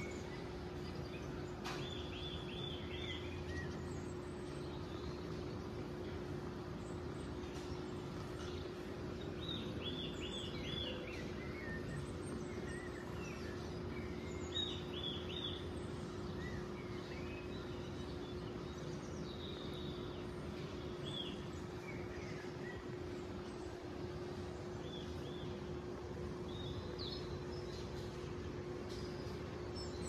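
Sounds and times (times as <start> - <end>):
faint hum: 0.0 - 30.0
small birds chirping from a phone: 0.0 - 30.0.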